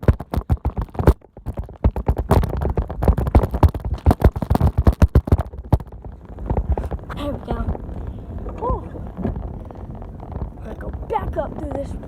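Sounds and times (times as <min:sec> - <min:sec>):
bicycle knocking and rattling: 0:00.0 - 0:12.0.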